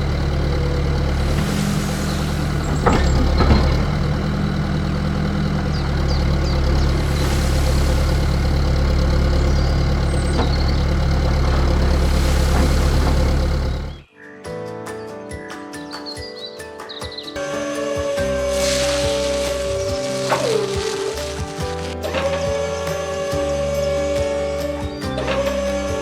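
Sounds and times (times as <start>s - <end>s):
engine humming: 0.0s - 14.0s, 18.2s - 25.8s.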